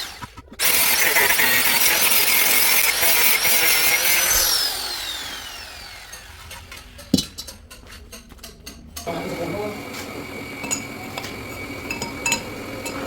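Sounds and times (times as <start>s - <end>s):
power tool whining: 0.0s - 7.2s, 9.0s - 13.0s.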